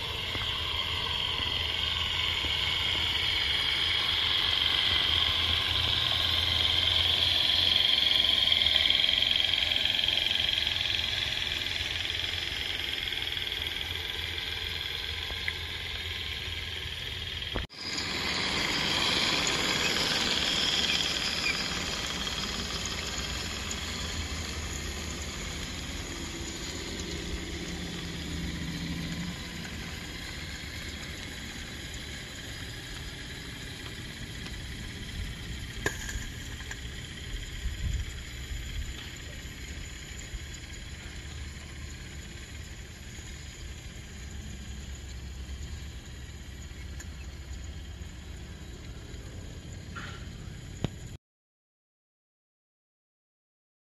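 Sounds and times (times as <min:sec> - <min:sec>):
steam hissing: 0:00.0 - 0:48.8
clatter of locomotive running gear: 0:00.0 - 0:51.2.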